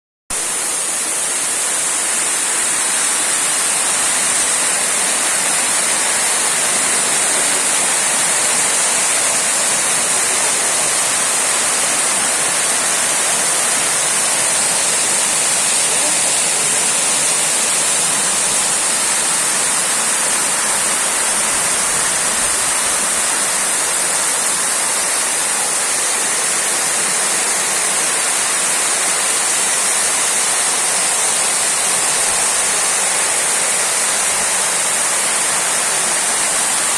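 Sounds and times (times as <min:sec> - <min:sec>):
waterfall rushing: 0:00.3 - 0:36.9.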